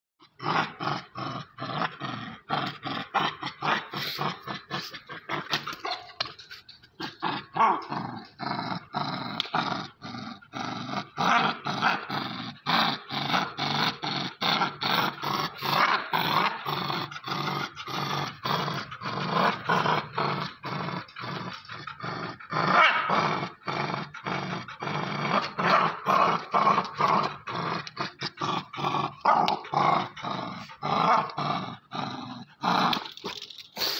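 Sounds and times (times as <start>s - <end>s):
dog play growling: 0.2s - 33.9s.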